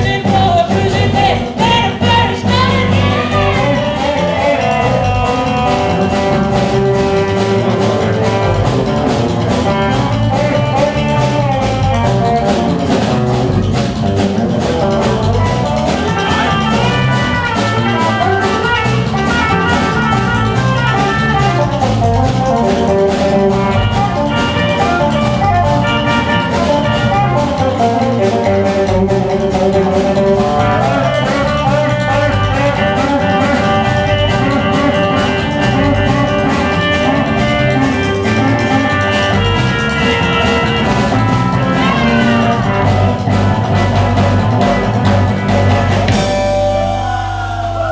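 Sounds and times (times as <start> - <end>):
drum kit beat: 0.0 - 47.9
guitar: 0.0 - 47.9.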